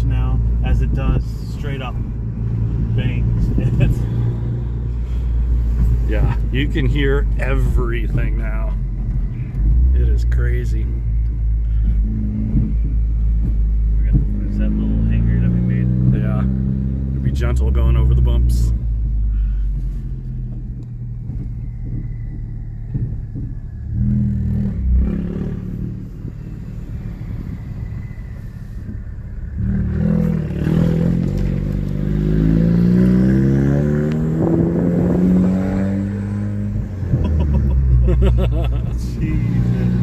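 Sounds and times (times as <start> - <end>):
car exhaust droning: 0.0 - 40.0.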